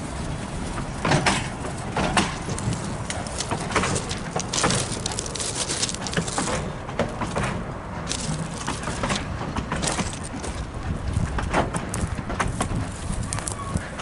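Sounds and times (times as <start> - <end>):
train cars rolling on track: 0.0 - 14.0
footsteps crunching on gravel: 1.7 - 13.9.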